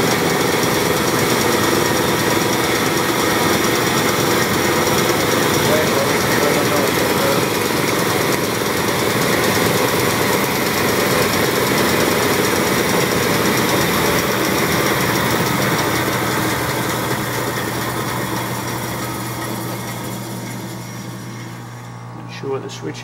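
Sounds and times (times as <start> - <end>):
bandsaw whirring: 0.0 - 22.7.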